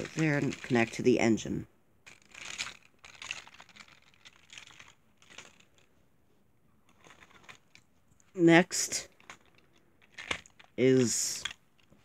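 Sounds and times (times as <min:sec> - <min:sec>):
plastic toy trains clicking and rattling: 0:00.0 - 0:06.0, 0:06.9 - 0:12.0.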